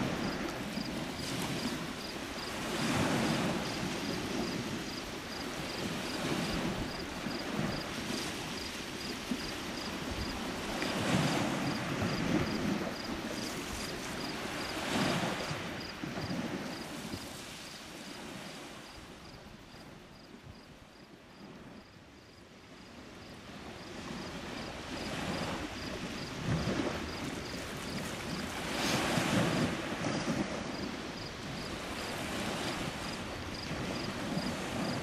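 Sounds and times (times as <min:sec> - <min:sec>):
small waves washing onto shore: 0:00.0 - 0:21.8, 0:22.6 - 0:35.0.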